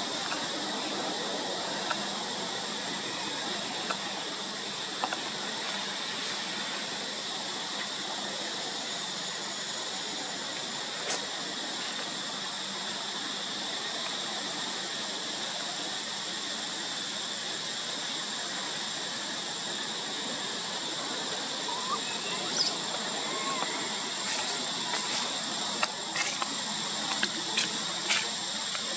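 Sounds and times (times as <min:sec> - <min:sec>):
shrill insect drone: 0:00.0 - 0:28.9.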